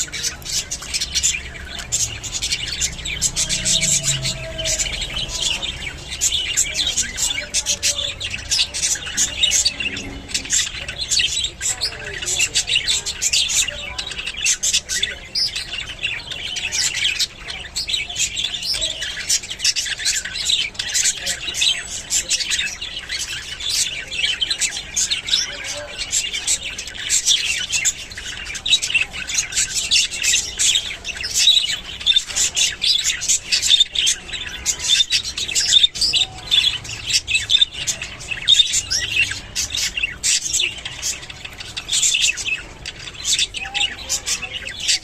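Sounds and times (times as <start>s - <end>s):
budgerigars chirping and squawking: 0.0s - 45.0s.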